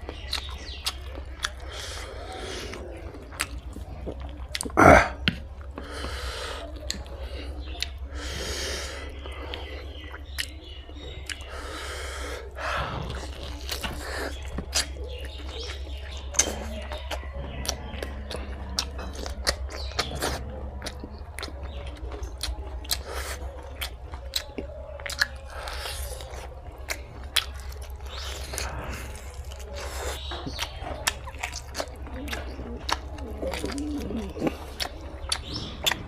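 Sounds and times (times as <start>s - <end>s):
mouth clicks and smacks: 0.0s - 8.3s, 9.0s - 36.0s
person chewing food: 0.0s - 36.0s.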